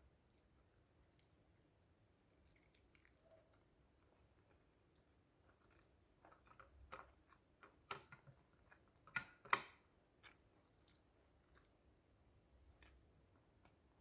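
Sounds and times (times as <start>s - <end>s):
chewing with crisp crunches: 0.2s - 7.8s, 9.8s - 14.0s.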